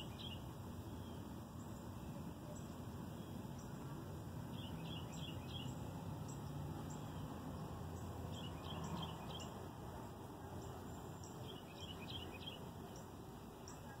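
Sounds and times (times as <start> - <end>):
low outdoor rumble: 0.0 - 14.0
small birds chirping: 0.0 - 14.0.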